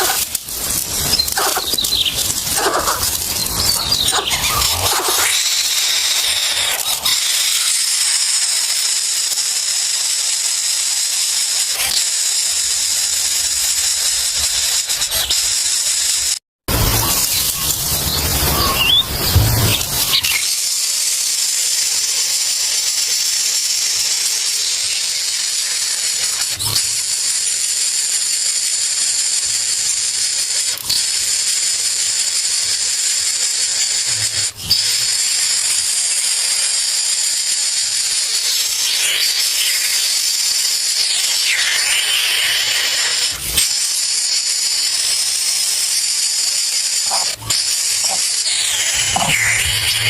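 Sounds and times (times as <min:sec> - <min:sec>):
high-pitched hiss: 0:00.0 - 0:50.0.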